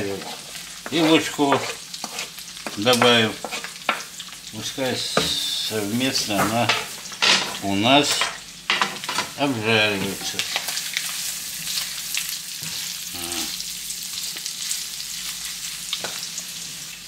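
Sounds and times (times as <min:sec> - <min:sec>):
meat and onion sizzling in pan: 0:00.0 - 0:17.0.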